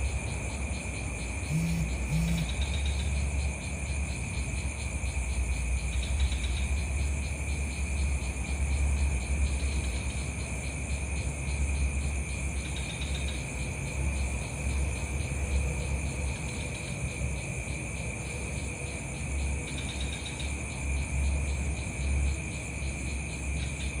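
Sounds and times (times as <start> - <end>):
fast pulsing insect trill: 0.0 - 24.0
insects chirring: 0.0 - 24.0.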